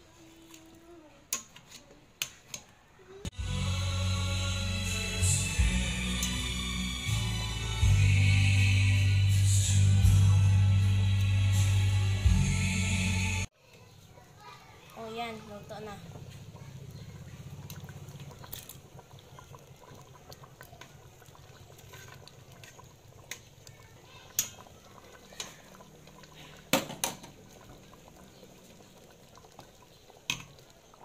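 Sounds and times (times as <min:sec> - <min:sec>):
stew simmering in a pot: 0:00.0 - 0:03.7, 0:05.2 - 0:31.0.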